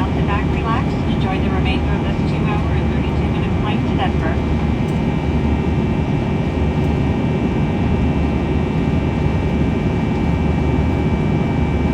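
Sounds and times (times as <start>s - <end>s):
jet cabin engine rumble: 0.0s - 11.9s.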